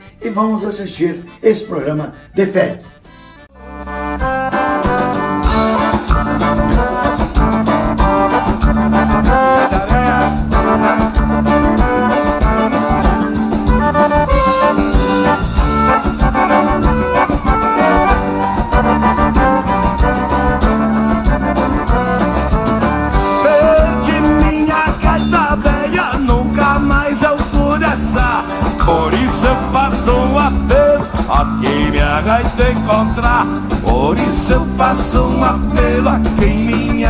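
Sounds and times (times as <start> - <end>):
accordions playing: 0.0 - 37.0
bass guitar: 2.8 - 37.0
drum kit: 4.6 - 37.0.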